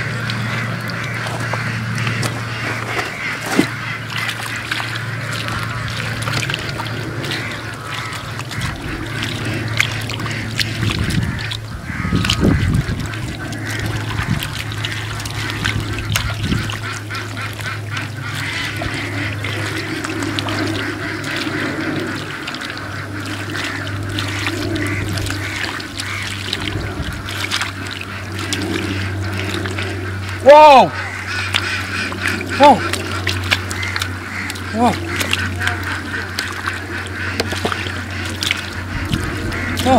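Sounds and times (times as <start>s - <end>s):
ducks quacking: 0.0s - 39.9s
water splashing: 0.0s - 39.9s.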